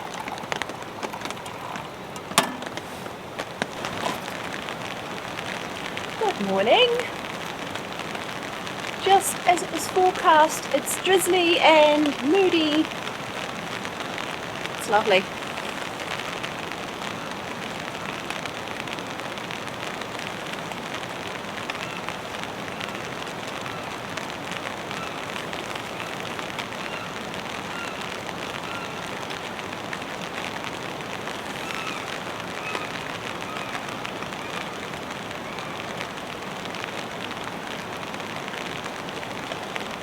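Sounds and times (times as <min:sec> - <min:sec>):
light rain pattering: 0:00.0 - 0:40.0.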